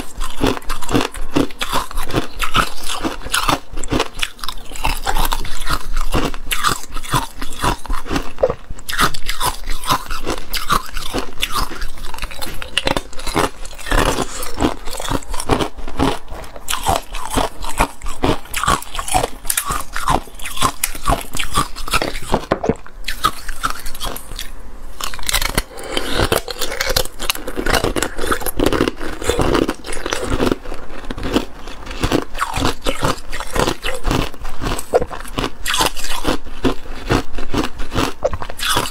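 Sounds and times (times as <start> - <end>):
ice cubes being chewed: 0.0 - 38.9.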